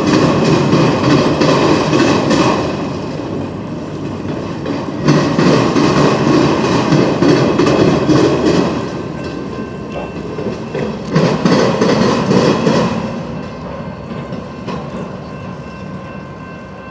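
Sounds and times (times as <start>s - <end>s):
train wheels rumbling on rails: 0.0s - 16.9s
wheels clicking over rail joints: 0.0s - 16.9s.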